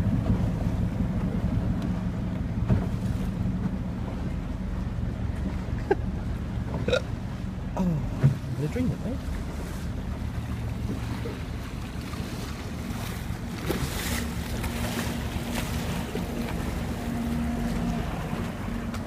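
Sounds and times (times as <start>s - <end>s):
steady low hum: 0.0s - 19.0s
water washing along boat: 0.0s - 19.0s.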